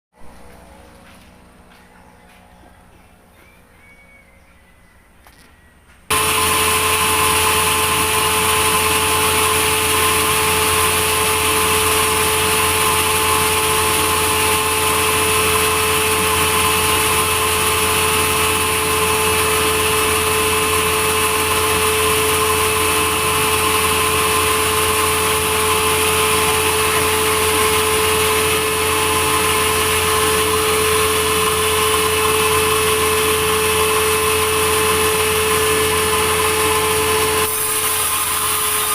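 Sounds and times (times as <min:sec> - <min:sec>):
sawmill machinery droning: 0:00.2 - 0:38.9.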